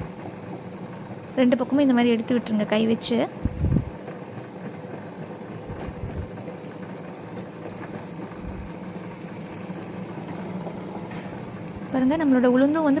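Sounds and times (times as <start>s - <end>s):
wet grinder motor hum: 0.0s - 13.0s.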